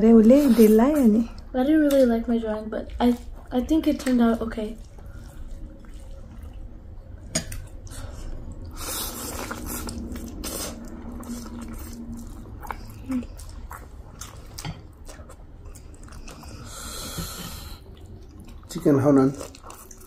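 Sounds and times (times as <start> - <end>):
noodles slurped and chewed: 0.3 - 20.0.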